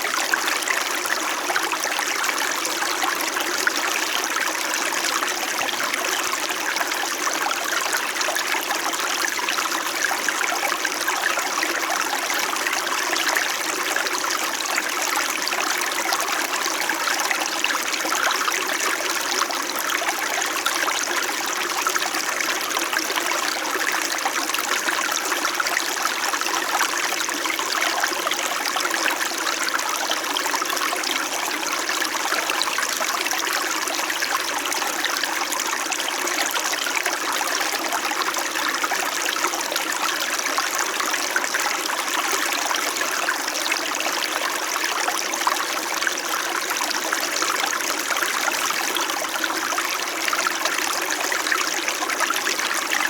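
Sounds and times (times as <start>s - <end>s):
stream flowing over rocks: 0.0s - 53.0s.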